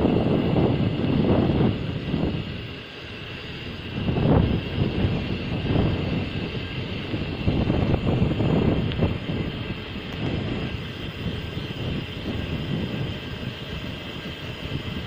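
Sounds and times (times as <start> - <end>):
bike tyre noise: 0.0 - 15.0
wind buffeting microphone: 0.0 - 15.0.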